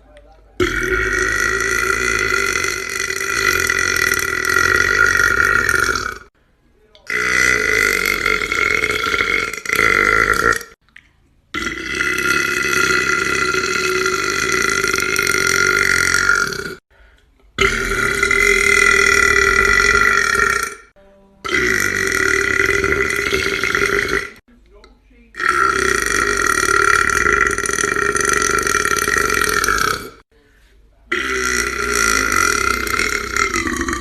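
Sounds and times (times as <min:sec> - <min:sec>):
man burping loudly: 0:00.6 - 0:06.3, 0:07.1 - 0:10.8, 0:11.5 - 0:16.8, 0:17.6 - 0:24.4, 0:25.4 - 0:30.2, 0:31.1 - 0:34.0.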